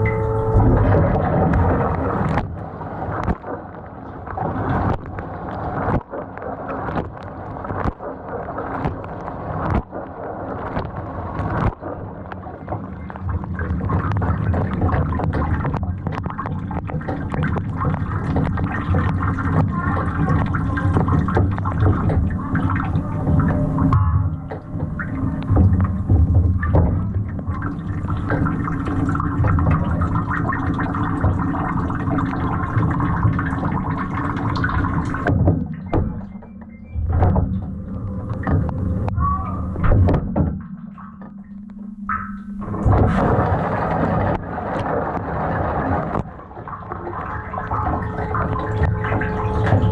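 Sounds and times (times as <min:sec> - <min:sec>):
low motor hum: 0:00.0 - 0:49.9
water splashing and gurgling: 0:00.0 - 0:49.9
clicks and knocks: 0:04.3 - 0:39.2, 0:39.8 - 0:49.9.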